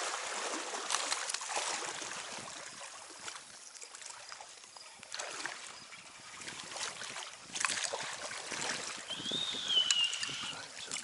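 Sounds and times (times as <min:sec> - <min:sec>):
small clicks and splashes: 0:00.0 - 0:09.1, 0:09.8 - 0:11.0
creek water running: 0:00.0 - 0:11.0.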